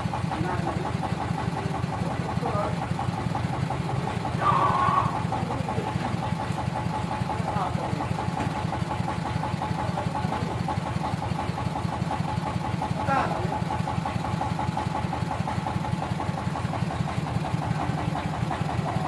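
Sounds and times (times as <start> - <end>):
engine running with rapid pulse: 0.0 - 19.0.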